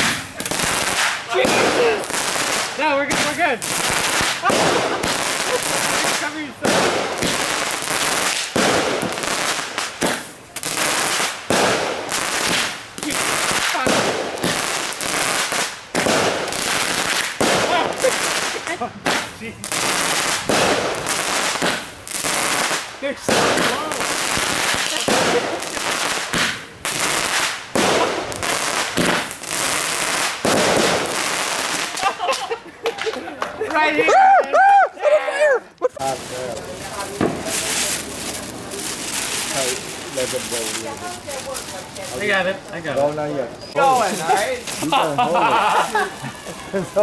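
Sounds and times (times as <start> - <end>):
fireworks crackling bursts: 0.0 - 34.3, 35.7 - 47.0.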